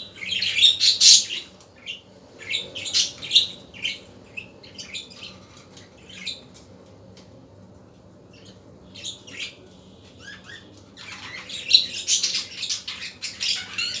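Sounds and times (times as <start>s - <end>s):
budgerigars chirping: 0.0s - 6.5s, 8.3s - 14.0s.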